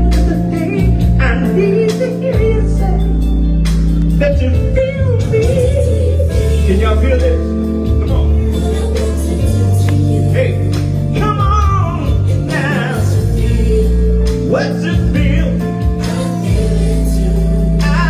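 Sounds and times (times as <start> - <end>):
man singing into a microphone: 0.0 - 3.1, 4.2 - 18.0
backing band bass and chords: 0.0 - 18.0.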